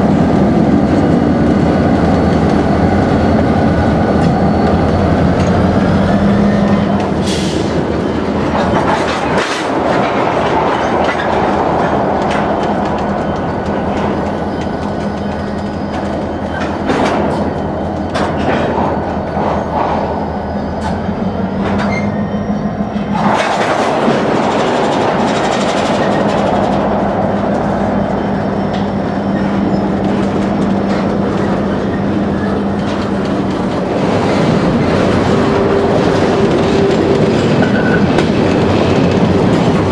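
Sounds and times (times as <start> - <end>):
diesel locomotive engines humming: 0.0 - 39.9
train wheels and cars rumbling: 0.0 - 39.9.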